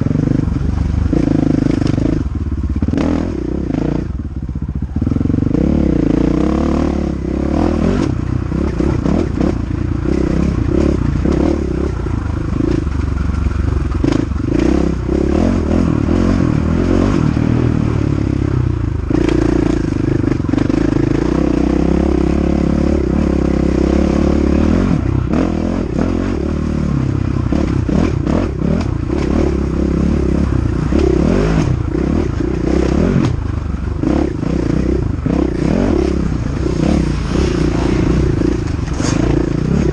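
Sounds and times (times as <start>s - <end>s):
dirt bike engine revving: 0.0s - 4.4s, 5.0s - 39.9s.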